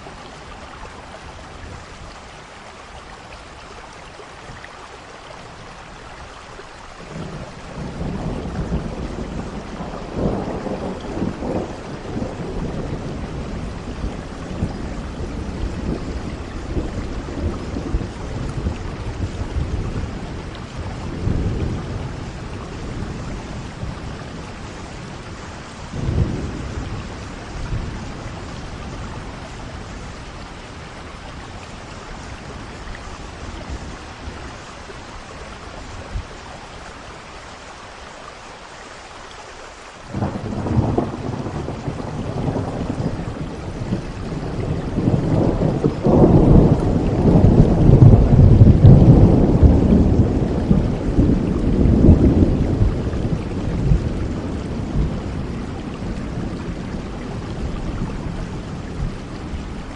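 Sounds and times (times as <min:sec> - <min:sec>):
steady rain falling: 0:00.0 - 0:59.9
long roll of thunder: 0:07.0 - 0:36.3, 0:40.1 - 0:59.9.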